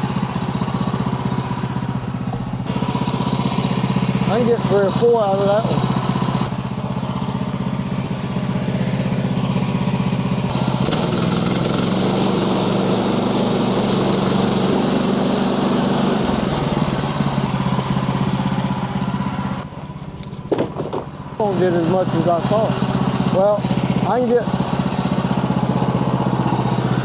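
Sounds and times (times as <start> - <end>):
band saw cutting log: 0.0 - 27.0
sawmill engine droning: 0.0 - 27.0.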